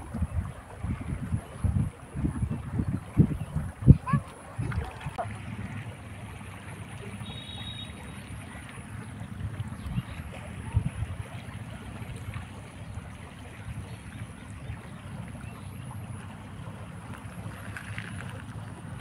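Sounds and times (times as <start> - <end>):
wind rumbling on microphone: 0.0 - 6.5, 9.1 - 19.0
shallow river flowing: 0.0 - 19.0.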